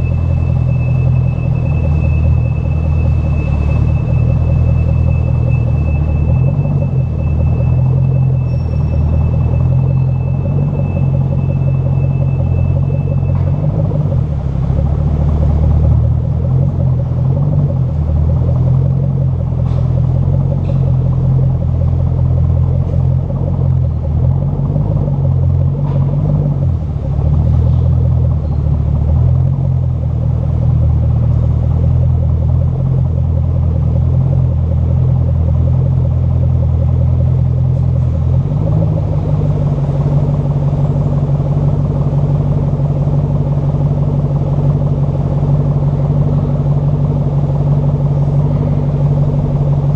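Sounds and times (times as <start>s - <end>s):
car exhaust deep rumble: 0.0s - 49.9s.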